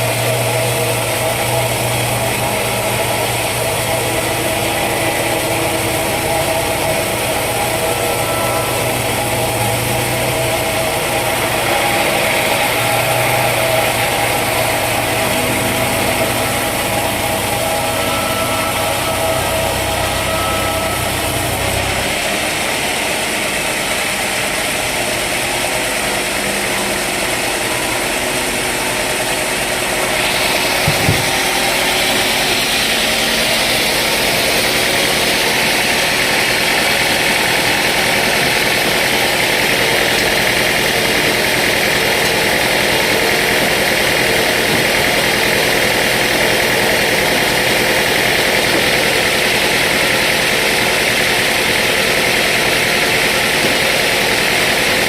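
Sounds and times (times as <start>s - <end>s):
low machine hum: 0.0s - 55.0s
sawmill machinery running: 0.0s - 55.0s.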